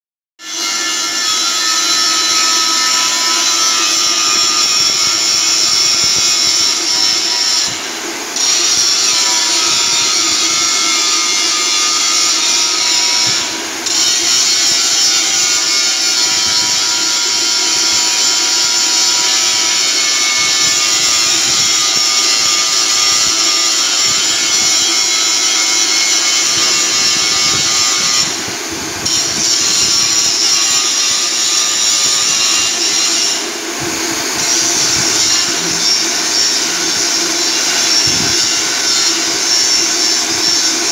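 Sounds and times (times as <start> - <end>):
angle grinder grinding steel: 0.4 - 40.9.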